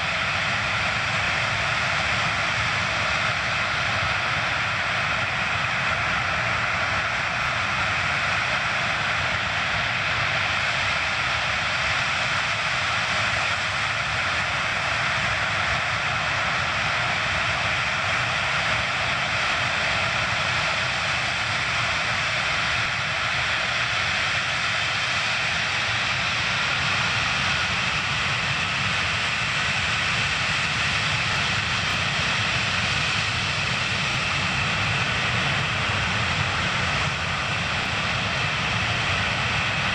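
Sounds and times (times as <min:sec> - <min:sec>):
jet engines hissing and whining: 0:00.0 - 0:39.9.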